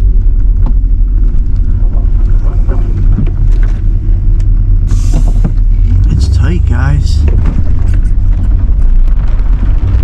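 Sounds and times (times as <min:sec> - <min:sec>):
truck engine rumble: 0:00.0 - 0:10.0.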